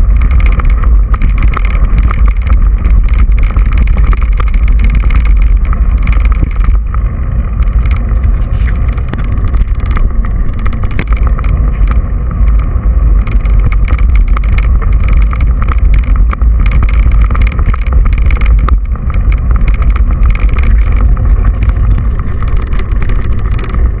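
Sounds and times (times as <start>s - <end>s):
bike tyres on gravel: 0.0s - 24.0s
small knocks and rattles: 0.0s - 24.0s
wind rumble on microphone: 0.0s - 24.0s.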